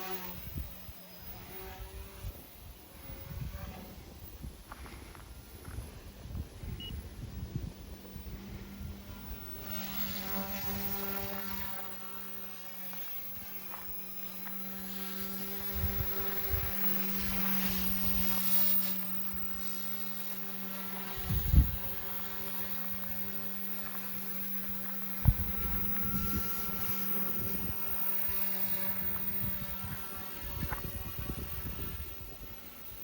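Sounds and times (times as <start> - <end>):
toy helicopter rotor whine: 0.0 - 33.0.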